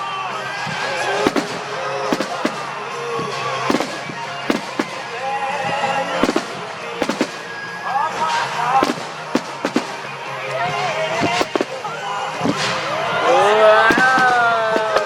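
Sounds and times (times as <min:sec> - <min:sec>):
music from loudspeakers: 0:00.0 - 0:12.8
fireworks bangs: 0:00.7 - 0:13.0, 0:13.6 - 0:15.0.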